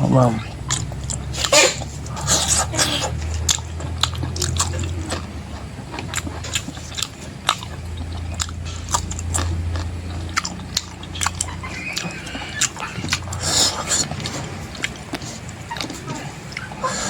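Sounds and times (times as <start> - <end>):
mouth clicks: 0.0 - 17.0
wet chewing crunches: 0.0 - 17.0.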